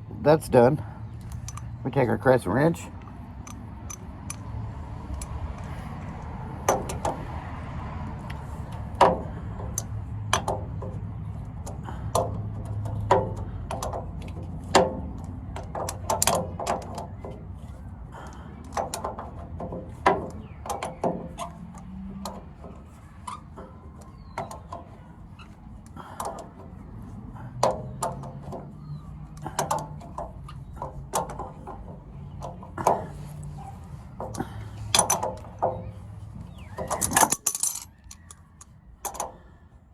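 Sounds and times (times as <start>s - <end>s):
hand tools clicking and knocking: 3.0s - 7.4s, 8.2s - 39.4s.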